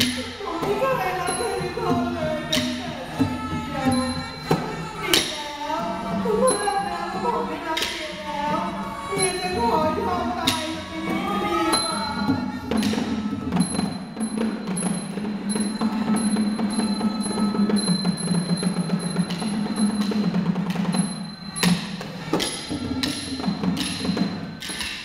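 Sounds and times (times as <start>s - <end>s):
loud sharp percussion strikes: 0.0s - 25.0s
low continuous drumming: 0.0s - 25.0s
small cymbals ringing: 0.0s - 25.0s.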